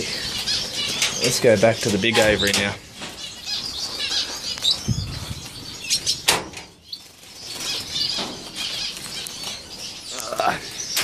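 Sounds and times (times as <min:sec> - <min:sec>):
finches chirping and twittering: 0:00.0 - 0:11.0.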